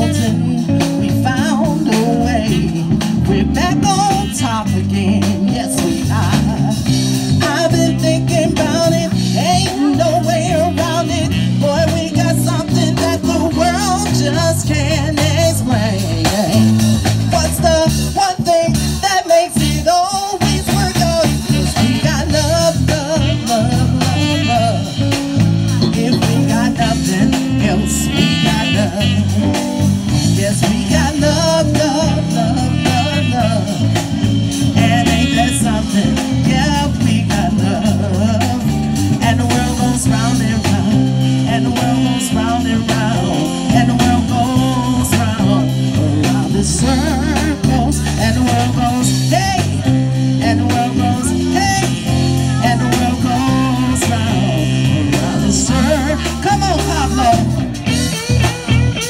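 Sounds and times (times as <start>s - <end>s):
saxophone: 0.0s - 17.2s, 21.1s - 59.0s
woman singing: 0.0s - 57.6s
drum kit: 0.0s - 59.0s
electric guitars: 0.0s - 59.0s.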